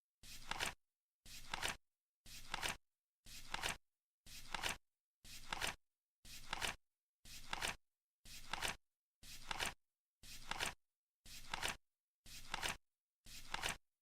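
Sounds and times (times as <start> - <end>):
flip clock card rustling: 0.3 - 2.8, 3.4 - 3.8, 4.4 - 11.8, 12.4 - 12.8, 13.4 - 13.8.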